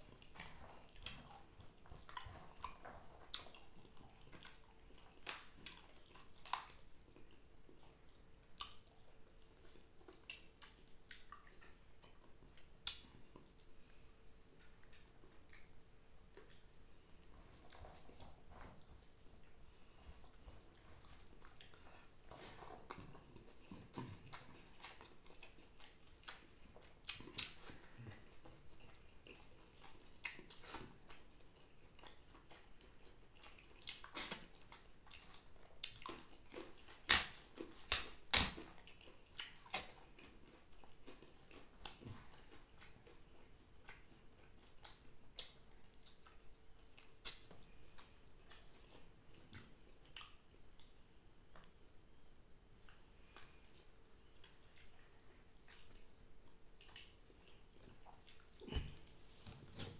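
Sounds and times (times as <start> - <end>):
chewing: 0.0 - 59.9
faint steady hum: 0.0 - 59.9.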